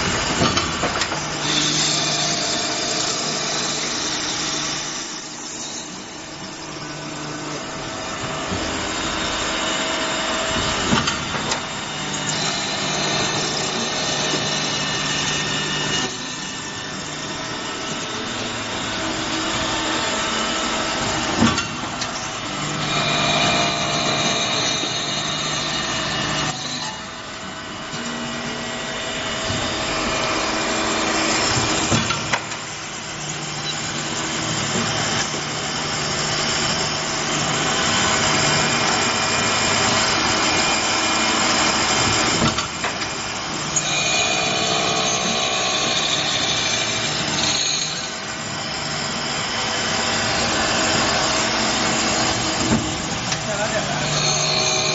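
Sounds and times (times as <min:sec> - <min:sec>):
steady machine noise: 0:00.0 - 0:54.9
drill spindles whining: 0:01.3 - 0:10.5, 0:11.4 - 0:21.3, 0:21.9 - 0:42.4, 0:43.0 - 0:54.9.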